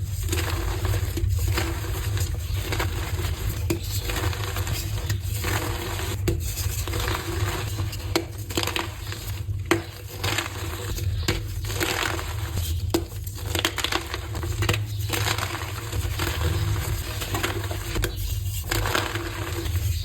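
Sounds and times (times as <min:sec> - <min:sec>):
chalk crunching and crumbling: 0:00.0 - 0:20.0.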